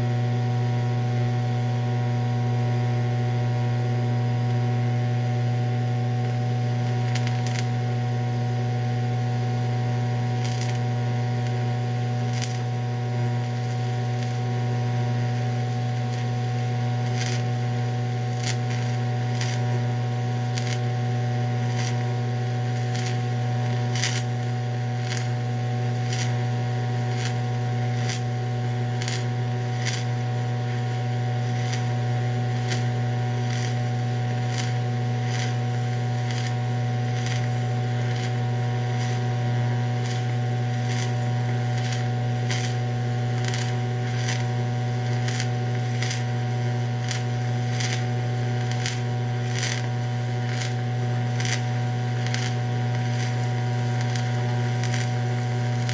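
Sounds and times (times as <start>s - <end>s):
welding arc buzzing and crackling: 0.0s - 55.9s.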